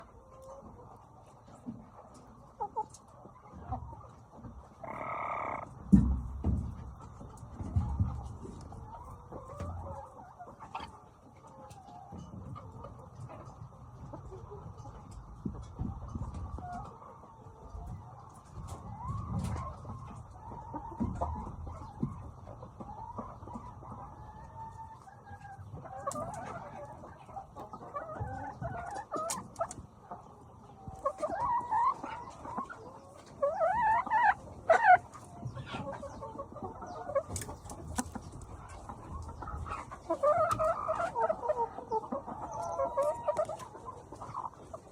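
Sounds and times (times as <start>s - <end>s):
chickens clucking softly: 0.0s - 44.9s.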